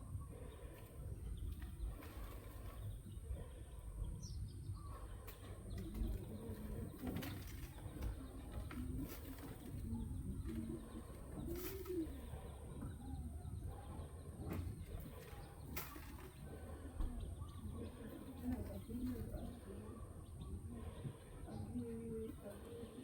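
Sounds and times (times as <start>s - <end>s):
low cooing bird calls: 0.0s - 23.0s.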